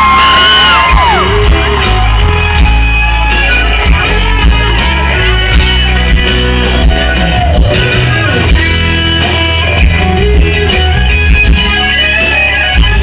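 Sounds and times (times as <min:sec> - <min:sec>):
live band playing guitars: 0:00.0 - 0:13.0.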